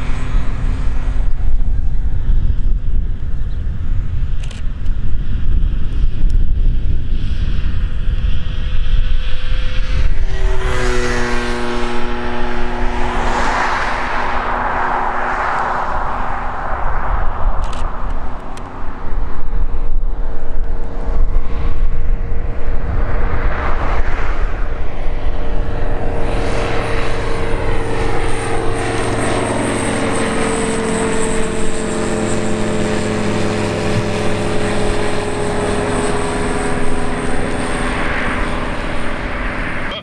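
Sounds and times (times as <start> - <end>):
wind rumble on microphone: 0.0 - 39.9
light aircraft engine passing overhead: 0.0 - 40.0.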